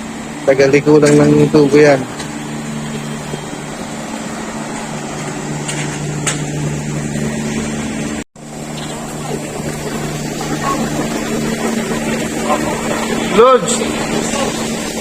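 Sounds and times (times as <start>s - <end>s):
low mechanical hum of machinery: 0.0s - 15.0s.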